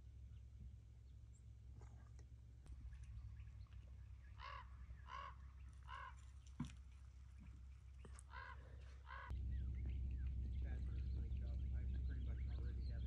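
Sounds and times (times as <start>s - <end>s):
bird calling: 0.2s - 13.0s.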